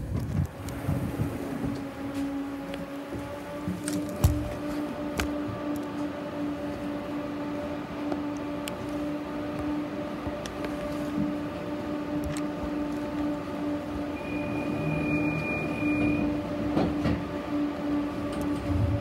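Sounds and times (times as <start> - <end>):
tram humming tone: 0.0 - 19.0
tram rumble: 0.0 - 19.0.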